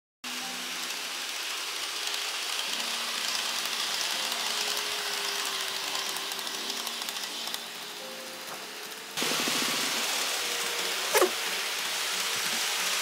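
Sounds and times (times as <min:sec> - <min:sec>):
model train rattling on track: 0:00.3 - 0:13.0.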